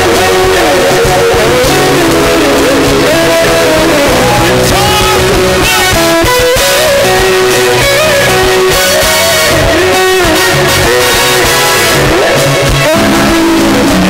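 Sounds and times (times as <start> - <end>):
worship music with electric guitar: 0.0 - 14.0.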